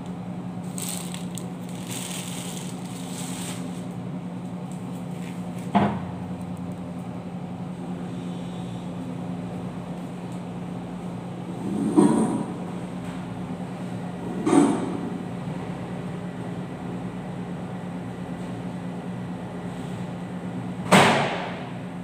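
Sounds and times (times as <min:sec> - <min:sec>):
electric appliance hum: 0:00.0 - 0:22.0.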